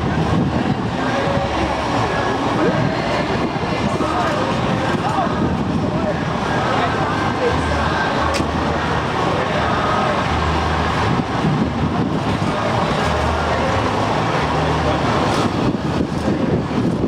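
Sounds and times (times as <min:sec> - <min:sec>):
truck engines driving past: 0:00.0 - 0:17.0.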